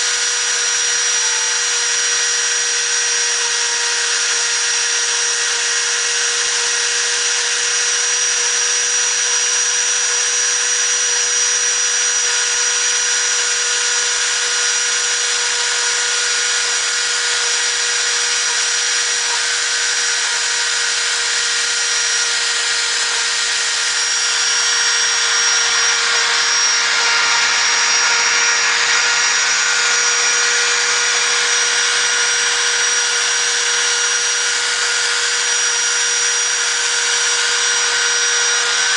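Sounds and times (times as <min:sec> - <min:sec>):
machine spindle whining: 0:00.0 - 0:38.9.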